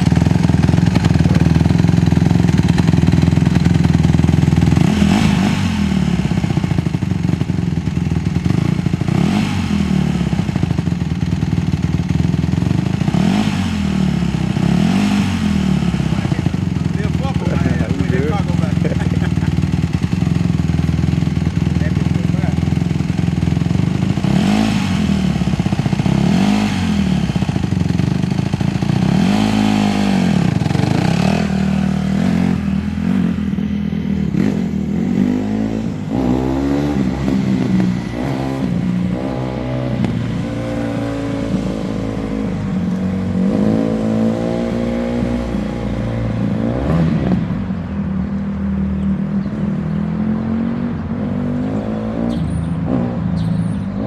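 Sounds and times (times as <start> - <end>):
dirt bike engine revving: 0.0 - 47.5.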